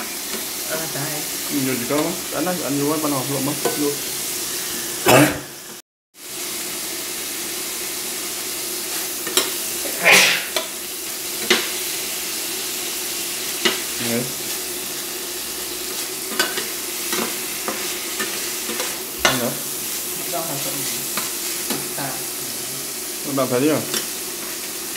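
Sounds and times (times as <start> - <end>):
food sizzling in pan: 0.0 - 24.9.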